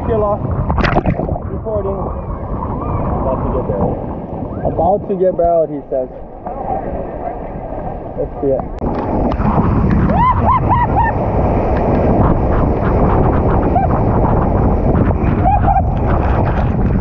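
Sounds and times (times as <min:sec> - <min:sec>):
wind buffeting camera: 0:00.0 - 0:17.0.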